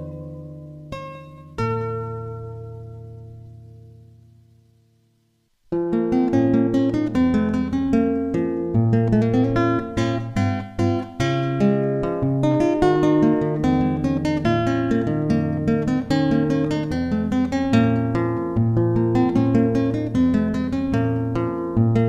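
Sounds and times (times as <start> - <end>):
acoustic guitar strumming and plucking: 0.0 - 4.2, 5.7 - 22.0.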